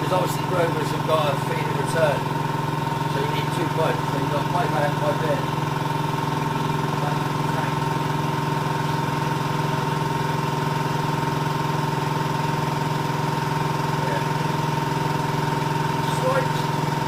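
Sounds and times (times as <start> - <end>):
air compressor humming and whining: 0.0 - 17.0.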